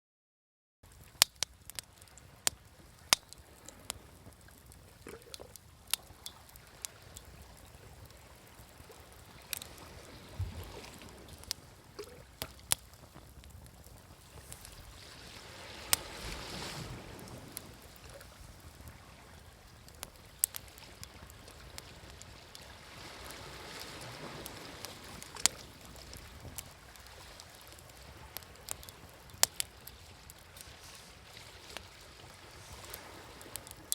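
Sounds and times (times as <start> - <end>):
campfire crackling and popping: 0.8 - 33.9
waves washing on shore: 1.5 - 33.9.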